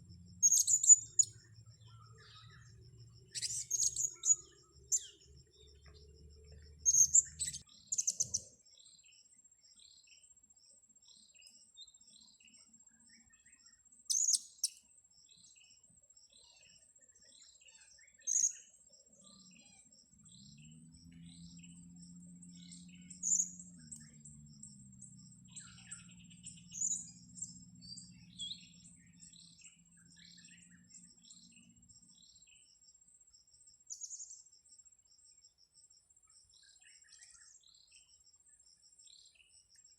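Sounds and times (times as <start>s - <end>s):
soft repeated bird tweets: 0.0s - 39.9s.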